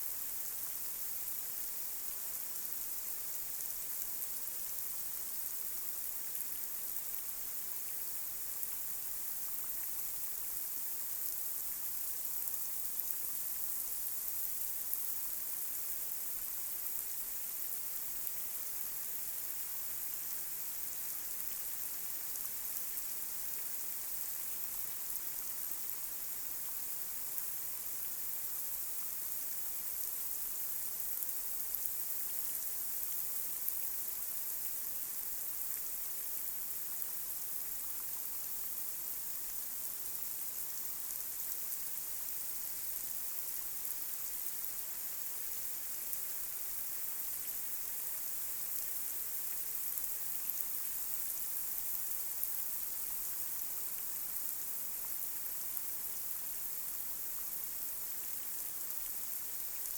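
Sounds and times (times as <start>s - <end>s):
light rain on a street: 0.0s - 59.9s.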